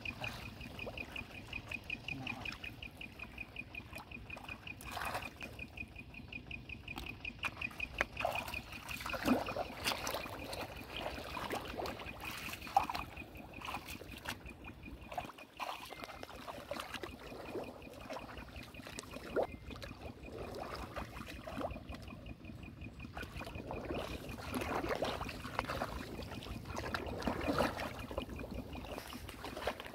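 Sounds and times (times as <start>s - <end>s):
wading steps in water: 0.0s - 5.8s, 6.9s - 29.9s
faint pulsing high note: 0.0s - 29.8s.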